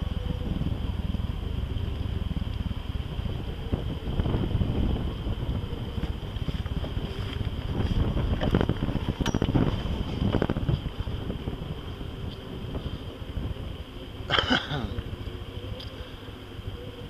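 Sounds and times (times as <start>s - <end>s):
faint high whine: 0.0s - 17.0s
wind buffeting microphone: 0.0s - 17.0s.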